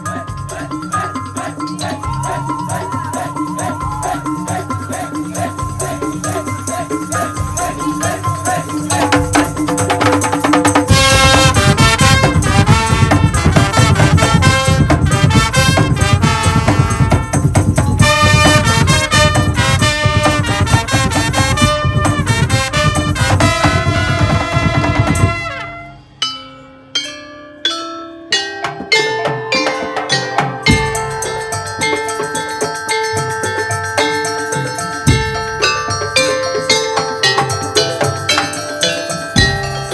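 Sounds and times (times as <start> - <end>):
percussion ensemble music: 0.0 - 39.9.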